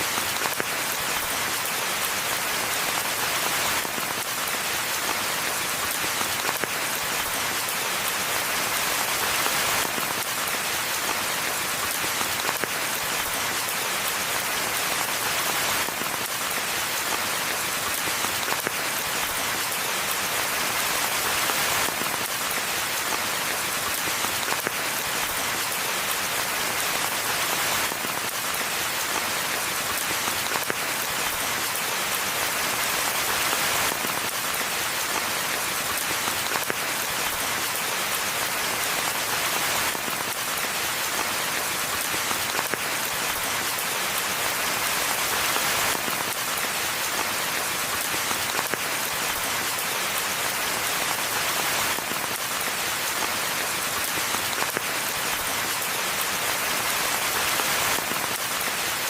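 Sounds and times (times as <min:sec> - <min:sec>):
rain hissing in a forest: 0:00.0 - 0:59.0.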